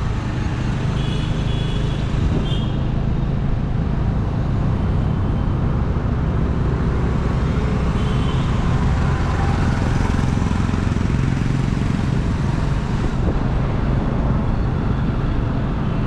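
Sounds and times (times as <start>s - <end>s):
car road noise rumble and hiss: 0.0s - 16.0s.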